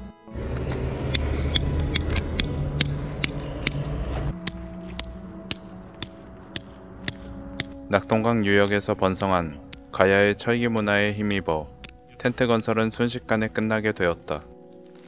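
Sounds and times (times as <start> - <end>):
hammer striking tent peg: 1.1 - 13.8.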